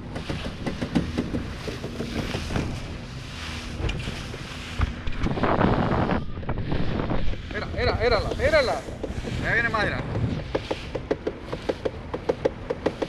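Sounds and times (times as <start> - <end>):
hull knocking on waves: 0.0 - 13.0
motorboat engine rumble: 0.0 - 13.0
rush of spray: 0.0 - 13.0
wind buffeting microphone: 0.0 - 13.0.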